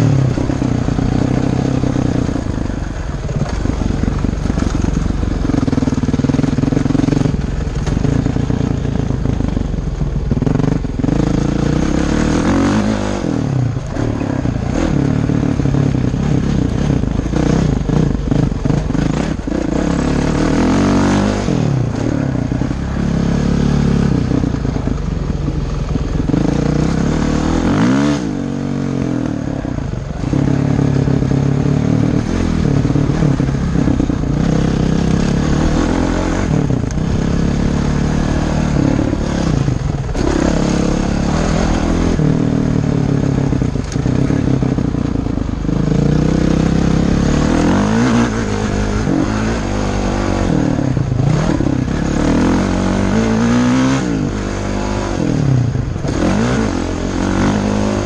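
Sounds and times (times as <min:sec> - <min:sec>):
dirt bike engine revving: 0:00.0 - 0:09.6, 0:10.2 - 0:58.0.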